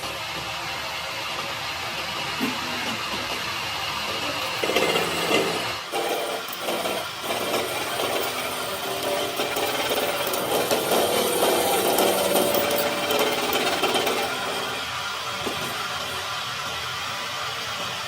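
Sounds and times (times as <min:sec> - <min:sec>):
power tool churning on metal: 0:00.0 - 0:18.0.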